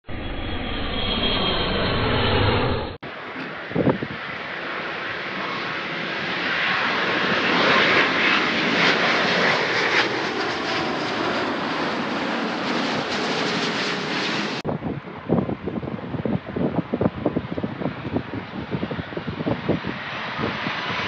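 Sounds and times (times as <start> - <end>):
jet airliner passing overhead: 0.1 - 21.0.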